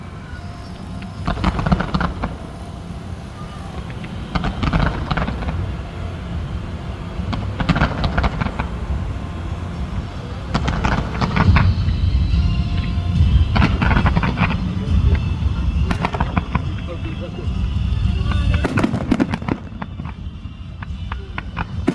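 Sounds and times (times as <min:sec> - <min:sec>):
steady low rumble: 0:00.0 - 0:21.9
fireworks crackling pops: 0:00.6 - 0:21.9.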